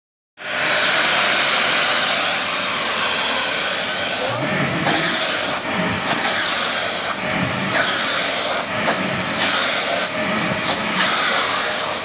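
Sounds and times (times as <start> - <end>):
handheld vacuum cleaner whine: 0.4 - 12.0.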